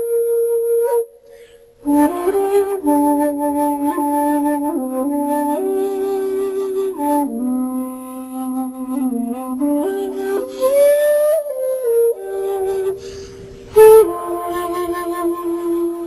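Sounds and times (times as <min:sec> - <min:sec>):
slow flute music: 0:00.0 - 0:16.0.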